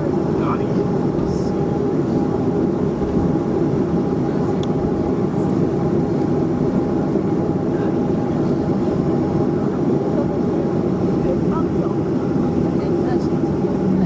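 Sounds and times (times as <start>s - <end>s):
aircraft cabin engine noise: 0.0s - 14.0s
thin steady whine: 0.0s - 14.0s.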